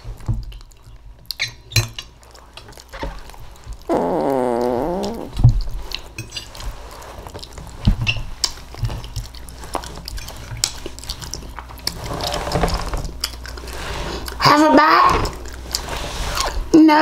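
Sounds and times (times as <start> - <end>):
chewing: 0.0 - 16.8.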